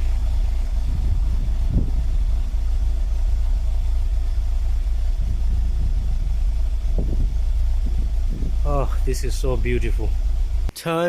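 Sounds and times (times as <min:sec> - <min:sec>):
car engine idling: 0:00.0 - 0:10.7
faint exhaust: 0:00.0 - 0:10.8.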